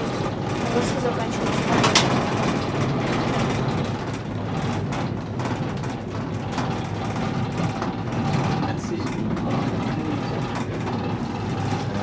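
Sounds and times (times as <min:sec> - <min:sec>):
cable car cabin rumble and hiss: 0:00.0 - 0:12.0.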